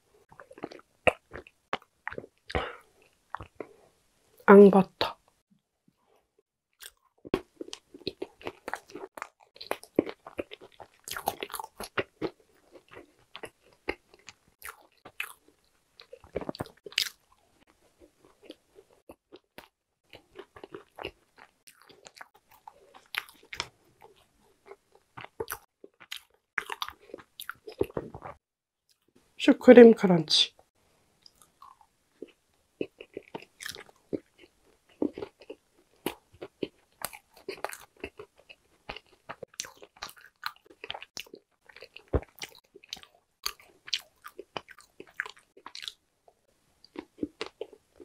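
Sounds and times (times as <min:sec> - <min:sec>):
crunchy chewing of cake: 0:00.2 - 0:03.8, 0:06.8 - 0:28.4, 0:31.2 - 0:46.0, 0:46.8 - 0:48.0.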